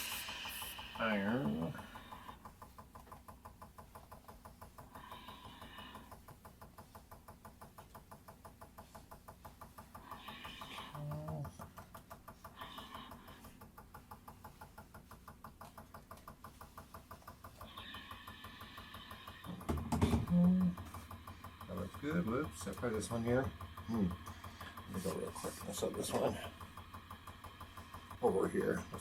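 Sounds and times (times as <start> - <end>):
faint rhythmic ticking: 0.0 - 29.0.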